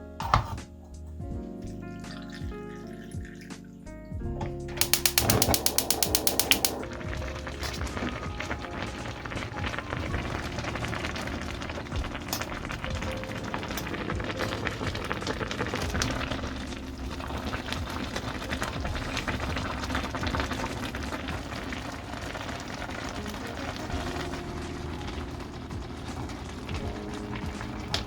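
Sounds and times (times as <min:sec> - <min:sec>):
food bubbling and crackling: 0:04.8 - 0:28.0.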